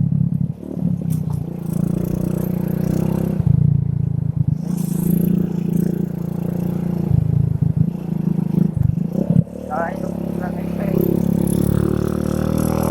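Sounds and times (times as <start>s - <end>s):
small motorcycle engine running: 0.0s - 12.9s.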